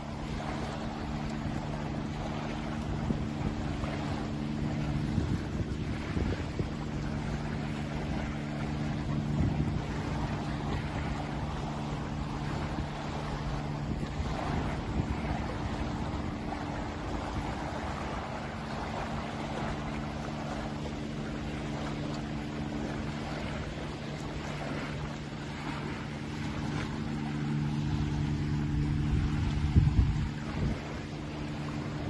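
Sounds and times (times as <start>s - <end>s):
low engine hum: 0.0s - 32.0s
small waves lapping on shore: 0.0s - 32.0s
wind on microphone: 0.0s - 32.0s.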